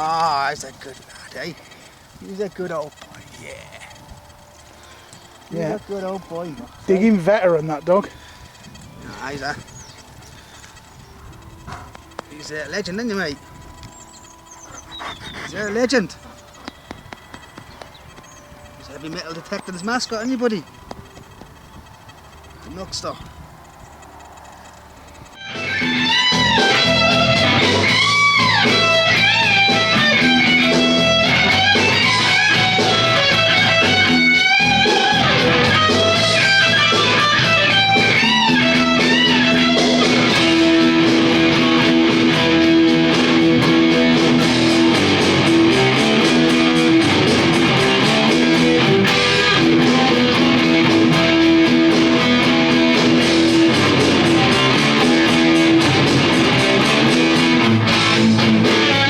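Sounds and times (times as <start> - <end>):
rock music with electric guitar: 1.0 - 22.5, 24.6 - 59.0.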